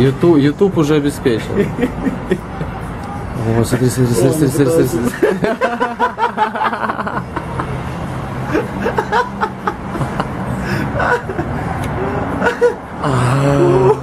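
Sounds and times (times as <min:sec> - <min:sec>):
people snickering and chuckling: 0:01.4 - 0:03.0, 0:04.4 - 0:14.0.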